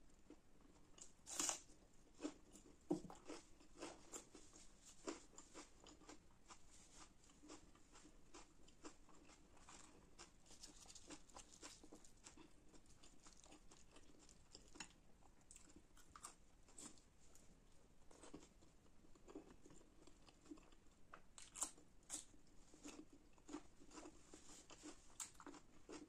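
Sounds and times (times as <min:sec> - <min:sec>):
person chewing and smacking: 0:02.2 - 0:17.4, 0:18.1 - 0:26.0.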